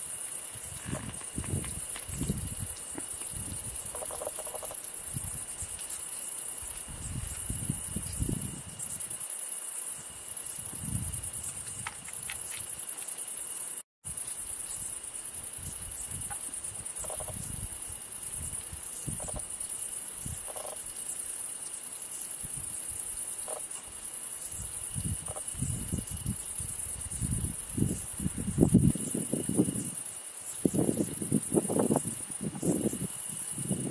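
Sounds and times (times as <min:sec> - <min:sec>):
crickets chirring: 0:00.0 - 0:33.9.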